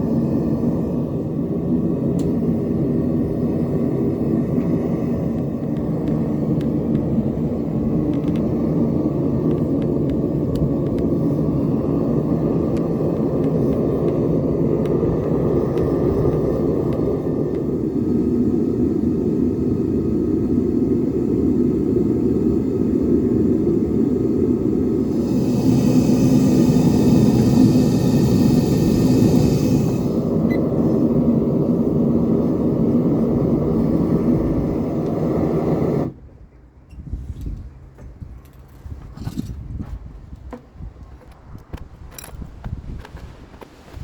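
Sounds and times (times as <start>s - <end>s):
gas burner roaring: 0.0s - 36.5s.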